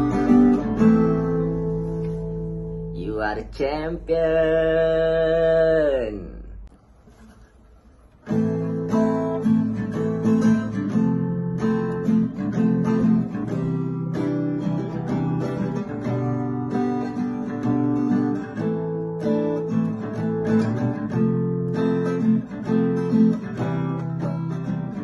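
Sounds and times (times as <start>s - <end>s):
strummed acoustic guitar: 0.0s - 6.1s, 6.7s - 25.0s.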